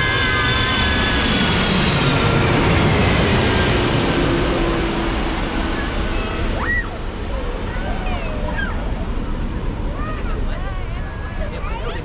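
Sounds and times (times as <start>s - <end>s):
airliner jet roar: 0.0s - 12.0s
jet engine whine: 0.0s - 12.0s.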